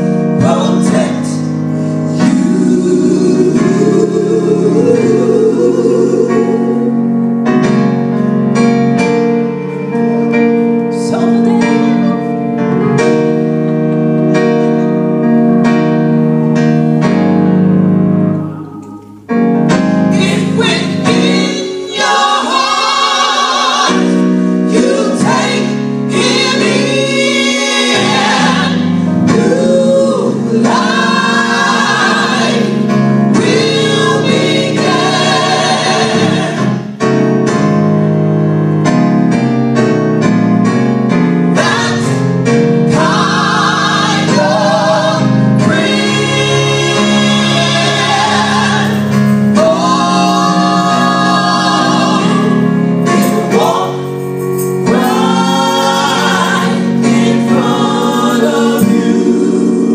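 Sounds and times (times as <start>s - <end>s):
gospel choir singing: 0.0s - 37.7s, 40.9s - 59.9s
keyboard accompaniment: 0.0s - 59.9s.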